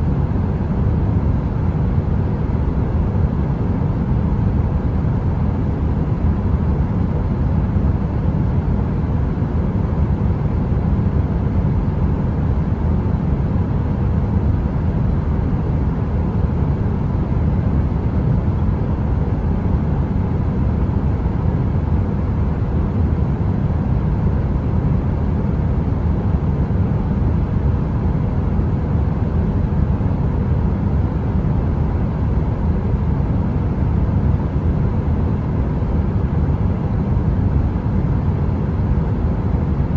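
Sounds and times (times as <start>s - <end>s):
faint constant hum: 0.0s - 39.9s.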